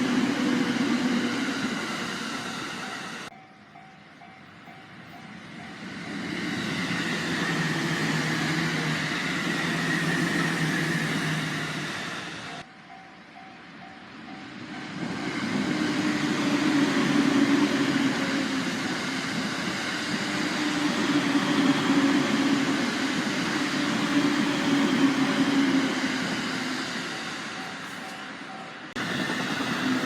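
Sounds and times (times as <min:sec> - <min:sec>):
train passing close by: 0:00.0 - 0:30.0.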